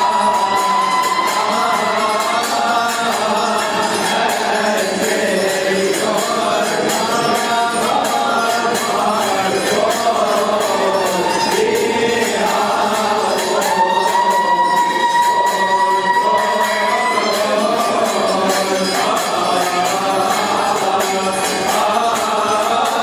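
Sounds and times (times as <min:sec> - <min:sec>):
metal percussion beat: 0:00.0 - 0:23.0
voices singing a hymn: 0:00.0 - 0:23.0.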